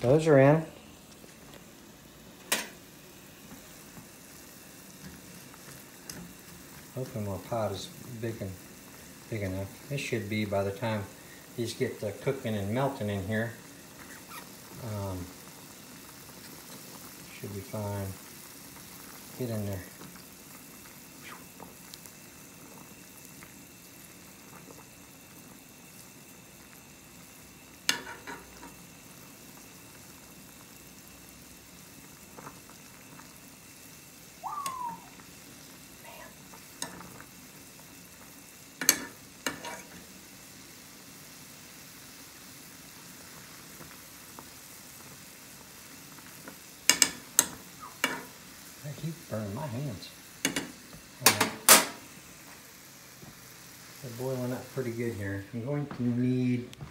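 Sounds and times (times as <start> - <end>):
water boiling in a pot: 0.0 - 56.9.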